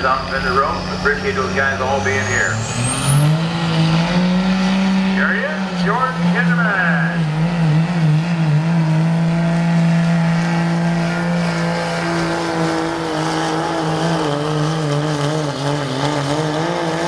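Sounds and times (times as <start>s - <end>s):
diesel pickup engine at high revs: 0.0s - 17.0s.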